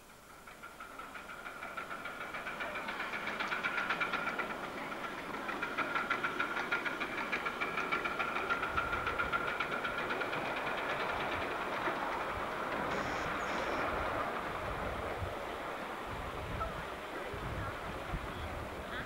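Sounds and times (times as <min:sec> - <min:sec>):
miniature locomotive running: 0:00.0 - 0:19.0.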